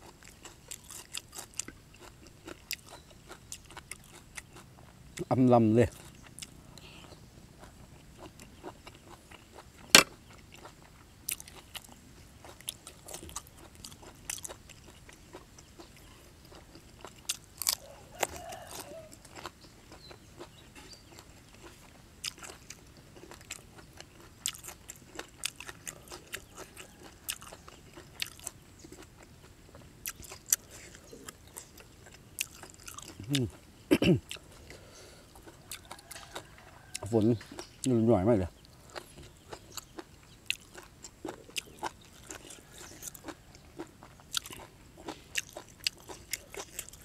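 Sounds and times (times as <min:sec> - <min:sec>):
wet crunchy chewing: 0:00.0 - 0:47.0.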